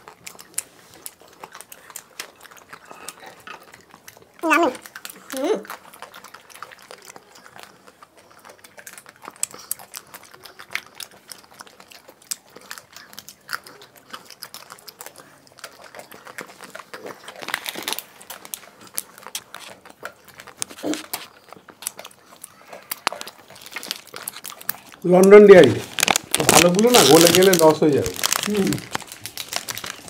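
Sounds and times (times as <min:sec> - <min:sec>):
people chewing and lip smacking: 0:00.0 - 0:30.0.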